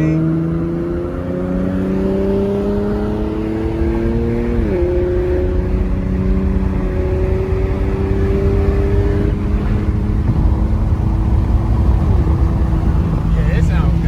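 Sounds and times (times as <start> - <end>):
car engine through loud exhaust: 0.0 - 14.0.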